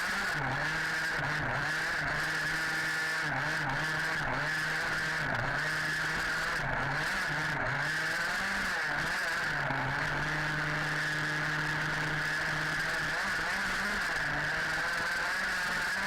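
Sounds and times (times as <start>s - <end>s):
drivetrain whine: 0.0s - 16.0s
small two-stroke engine revving: 0.0s - 16.0s.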